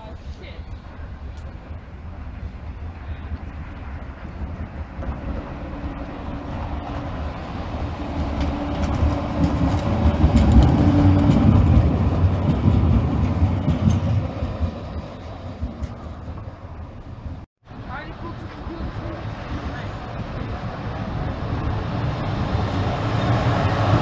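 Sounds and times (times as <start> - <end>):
electric tram rumbling past: 0.0 - 24.0
tram wheels clicking on rails: 0.7 - 24.0.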